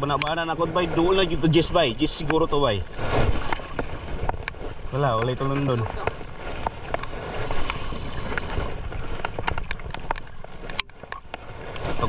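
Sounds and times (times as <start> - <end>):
water slapping against hull: 0.0 - 12.0.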